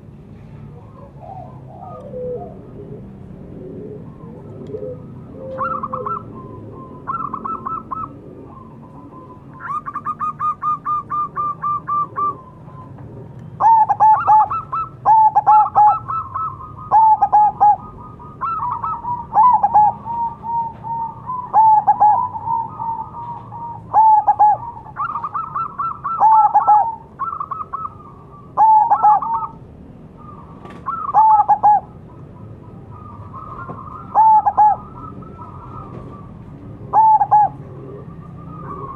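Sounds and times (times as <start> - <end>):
dove cooing: 0.7 - 38.9.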